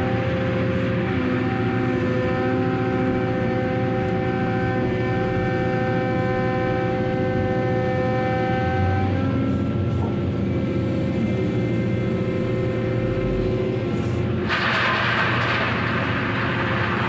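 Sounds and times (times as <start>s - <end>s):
heavy machinery droning: 0.0s - 17.0s.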